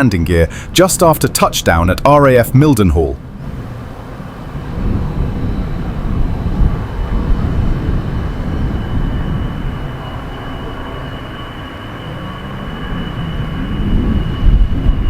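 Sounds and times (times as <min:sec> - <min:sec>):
high engine whine: 0:00.0 - 0:15.0
jet engines rumbling: 0:00.0 - 0:15.0.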